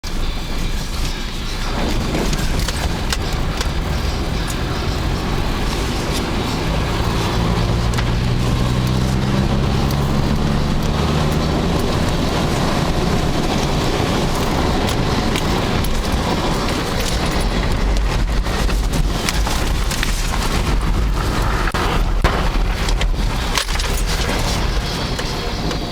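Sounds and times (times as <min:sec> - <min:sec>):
car engine under load: 0:00.0 - 0:25.9
tyres spinning on ice: 0:00.1 - 0:25.9.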